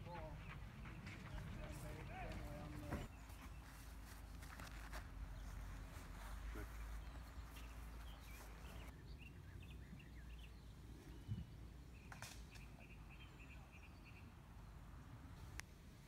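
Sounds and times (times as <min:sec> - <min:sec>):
small birds chirping: 0:00.0 - 0:15.2.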